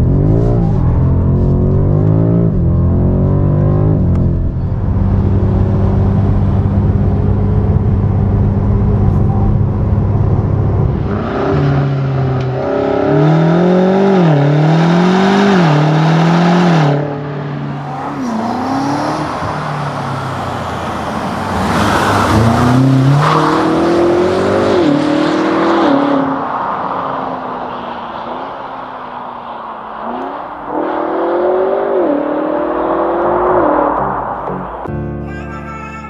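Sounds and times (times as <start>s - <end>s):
car engine revving and idling: 0.0s - 34.9s.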